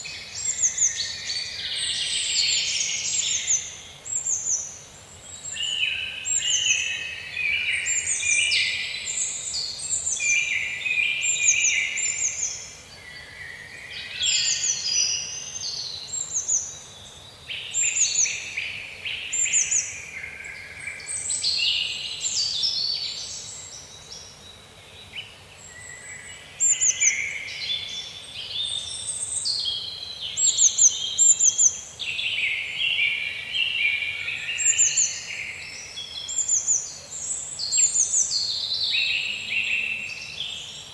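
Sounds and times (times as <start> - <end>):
birds singing and calling: 0.0 - 40.9.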